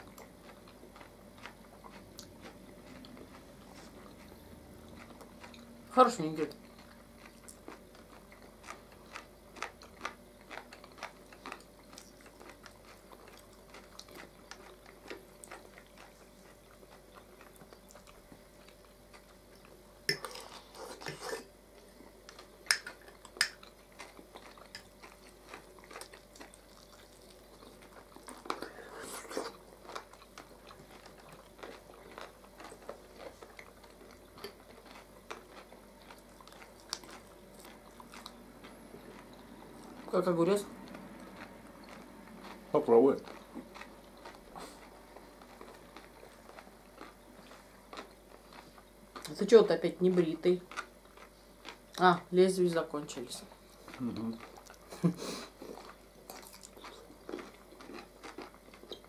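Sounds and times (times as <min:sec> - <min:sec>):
people chewing: 0:00.0 - 0:59.0.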